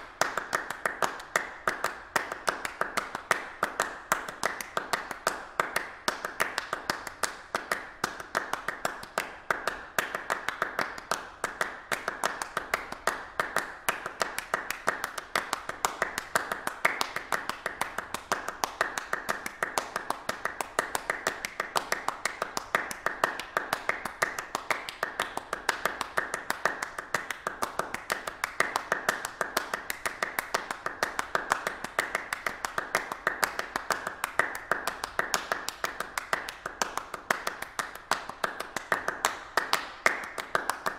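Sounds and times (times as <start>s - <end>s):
people clapping: 0.0s - 40.9s.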